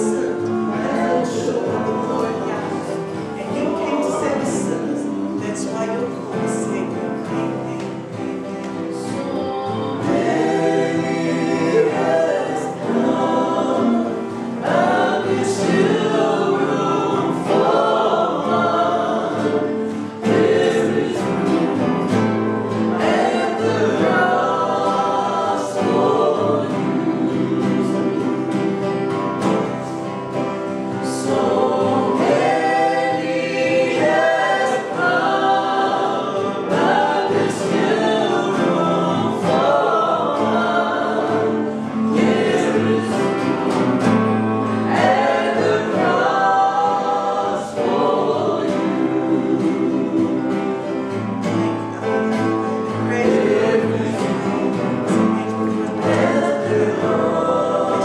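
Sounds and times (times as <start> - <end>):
choir singing worship song: 0.0 - 58.0.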